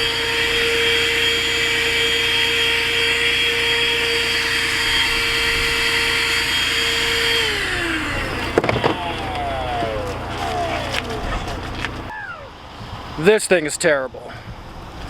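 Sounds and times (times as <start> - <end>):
car vacuum motor whine: 0.0 - 12.1.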